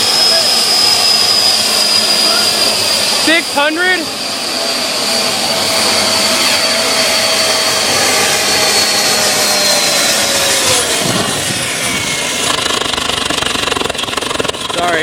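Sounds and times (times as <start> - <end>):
jet engine running loudly: 0.0 - 15.0.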